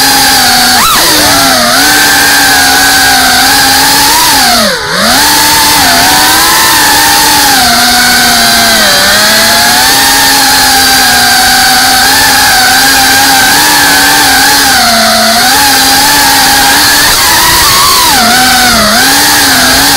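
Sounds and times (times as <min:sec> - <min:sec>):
drone propellers buzzing: 0:00.0 - 0:19.9.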